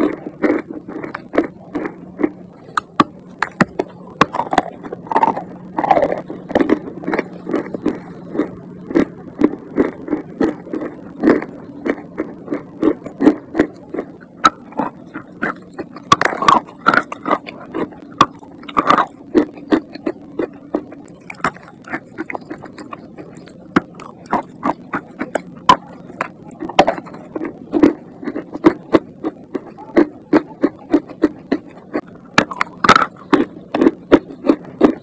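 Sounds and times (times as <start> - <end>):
chewing chalk crunches: 0.0 - 35.0.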